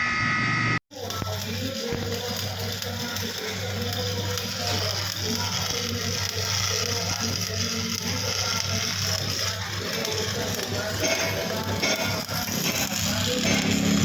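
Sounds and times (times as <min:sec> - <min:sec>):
shop machinery humming and whirring: 0:00.0 - 0:14.0.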